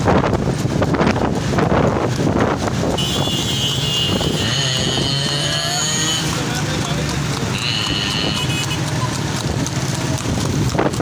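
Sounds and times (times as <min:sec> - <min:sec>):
motorcycle engines running: 0:00.0 - 0:11.0
wind buffeting microphone: 0:00.0 - 0:11.0.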